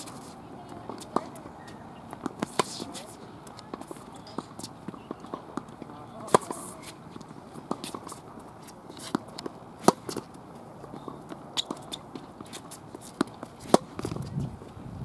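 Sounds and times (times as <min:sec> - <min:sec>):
racket hitting tennis ball: 0:00.0 - 0:14.2
tennis ball bounces: 0:00.0 - 0:14.3
footsteps on court: 0:00.0 - 0:14.8.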